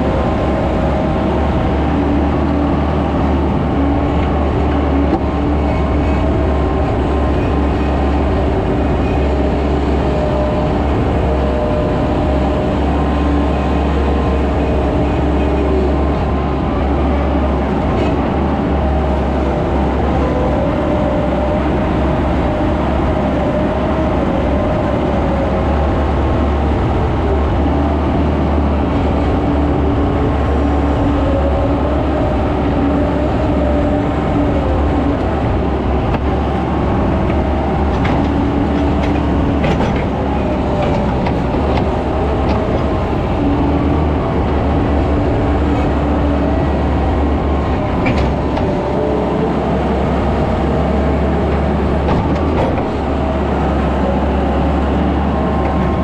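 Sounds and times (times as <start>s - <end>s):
skid steer engine whining: 0.0s - 56.0s.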